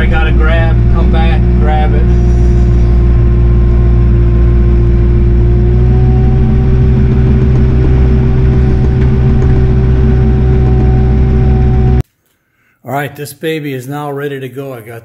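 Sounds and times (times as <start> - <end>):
steady whine: 0.0 - 12.0
tractor diesel engine from cab: 0.0 - 12.0.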